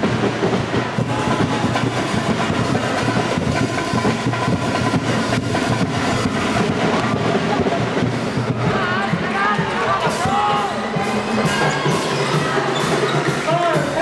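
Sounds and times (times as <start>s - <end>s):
basketball game crowd din: 0.0s - 14.0s.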